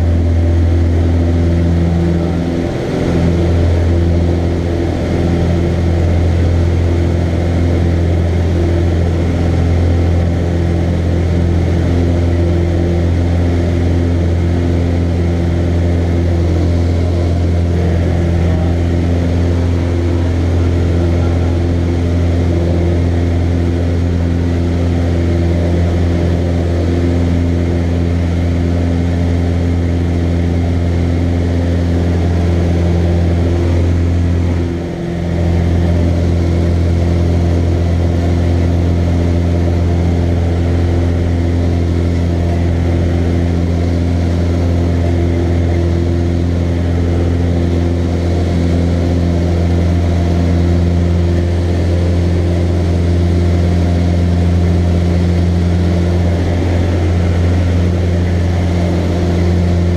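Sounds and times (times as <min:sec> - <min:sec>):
aircraft engine and propeller drone: 0:00.0 - 0:59.9.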